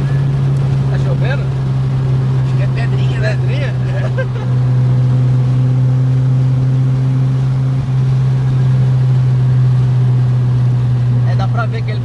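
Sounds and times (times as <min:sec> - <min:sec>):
car engine droning inside cabin: 0:00.0 - 0:12.0.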